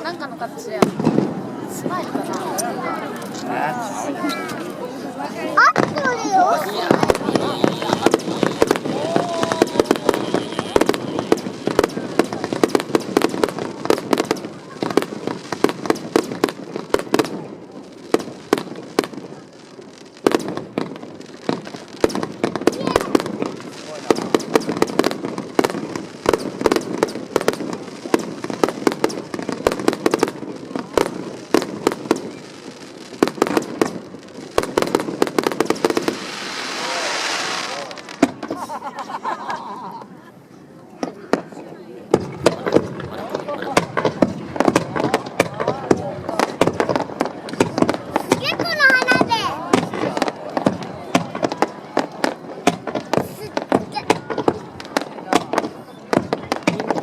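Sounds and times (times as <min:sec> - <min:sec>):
fireworks bangs: 0:00.0 - 0:40.2, 0:41.0 - 0:57.0
fireworks hissing crackle: 0:00.0 - 0:40.2, 0:41.1 - 0:57.0.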